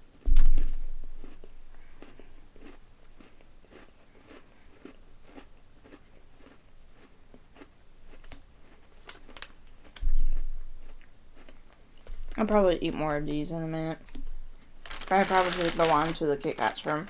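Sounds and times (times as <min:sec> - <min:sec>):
chewing crunchy cookie: 0:00.6 - 0:12.6, 0:14.0 - 0:17.0.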